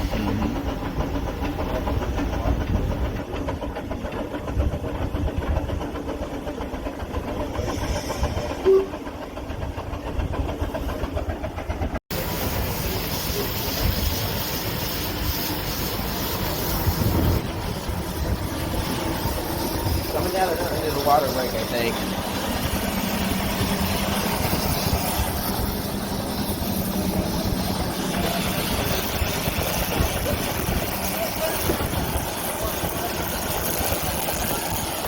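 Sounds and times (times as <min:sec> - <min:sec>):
steam hissing: 0:00.0 - 0:03.4, 0:06.9 - 0:09.4, 0:12.1 - 0:35.0
steam engine exhaust chuff: 0:00.0 - 0:35.0.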